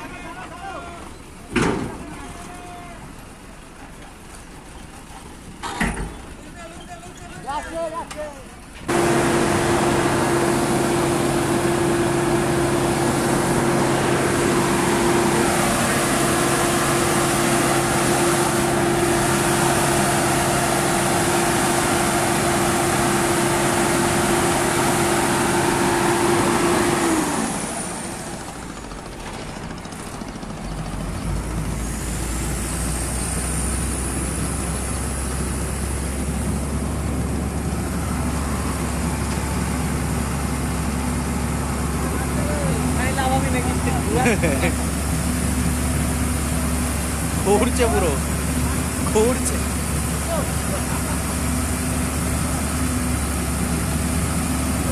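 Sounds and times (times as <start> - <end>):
loud engine drone: 8.9 - 54.9.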